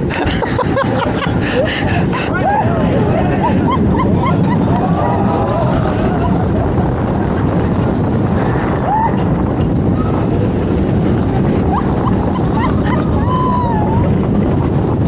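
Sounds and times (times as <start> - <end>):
wind rush and track rumble: 0.0 - 15.0.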